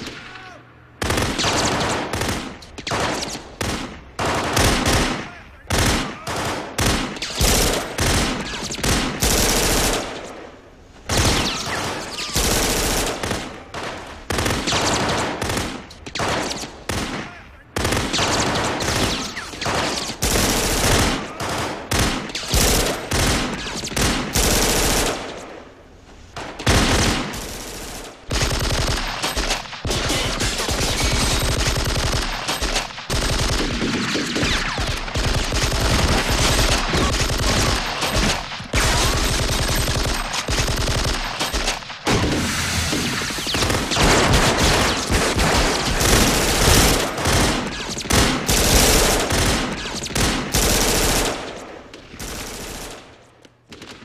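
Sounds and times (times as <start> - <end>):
automatic gunfire bursts: 1.0 - 10.3, 11.1 - 25.4, 26.6 - 53.1.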